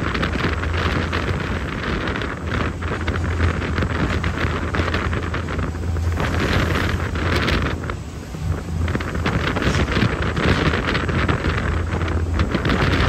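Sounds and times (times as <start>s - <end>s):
boat engine drone: 0.0s - 13.0s
wind buffeting microphone: 0.0s - 13.0s.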